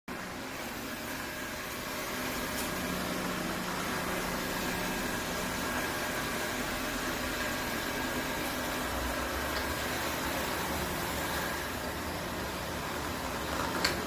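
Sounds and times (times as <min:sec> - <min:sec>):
robot vacuum cleaner whirring: 0:00.1 - 0:14.0.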